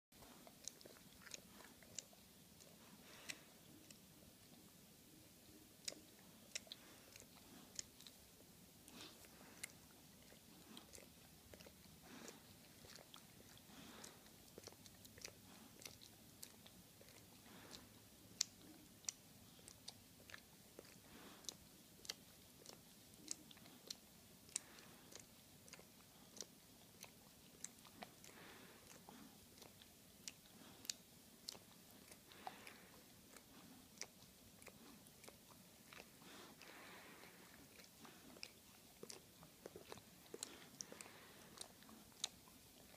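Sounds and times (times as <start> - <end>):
dog licking: 0.2 - 42.9.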